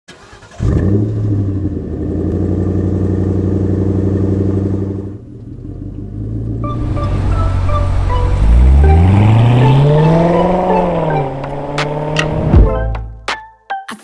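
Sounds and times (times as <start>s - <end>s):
car engine idling: 0.1s - 12.4s.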